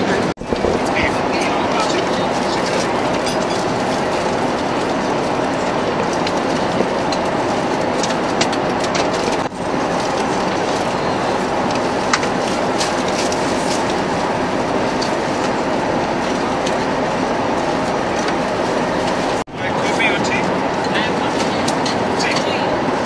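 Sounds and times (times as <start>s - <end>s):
airplane cabin engine rush: 0.0s - 23.0s.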